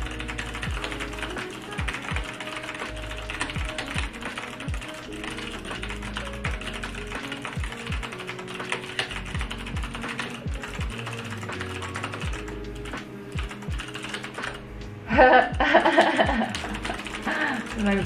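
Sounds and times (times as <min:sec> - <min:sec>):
mechanical keyboard typing: 0:00.0 - 0:14.6, 0:15.9 - 0:18.0
background music with a beat: 0:00.0 - 0:18.0.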